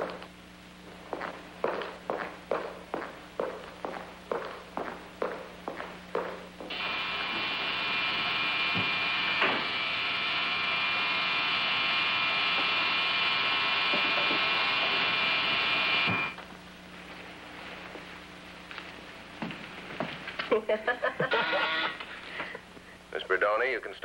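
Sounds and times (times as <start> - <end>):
electric buzz with high whine: 0.0 - 24.0.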